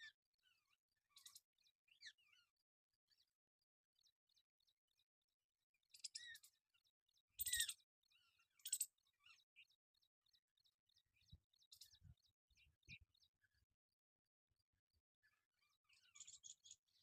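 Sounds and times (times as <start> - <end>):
faint high bird chirps: 0.0 - 17.0.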